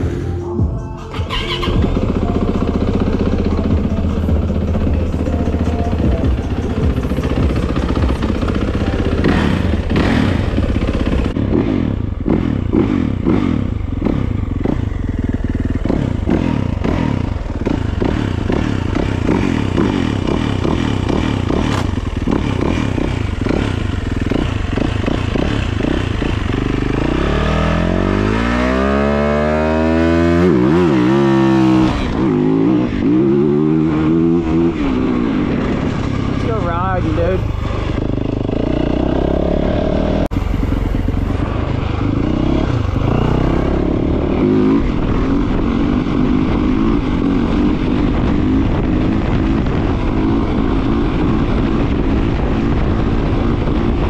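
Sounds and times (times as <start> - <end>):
dirt bike engine revving: 1.1 - 54.0.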